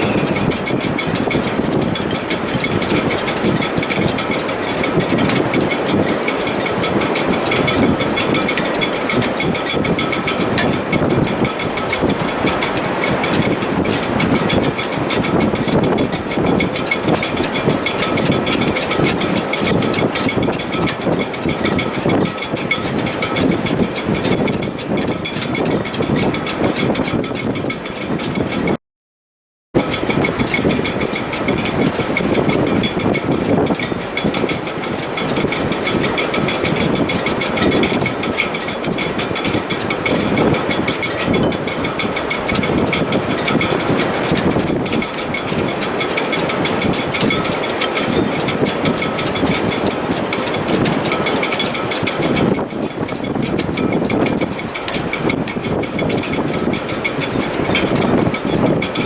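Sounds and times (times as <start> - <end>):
wind rushing in rigging: 0.0 - 28.8, 29.8 - 59.0.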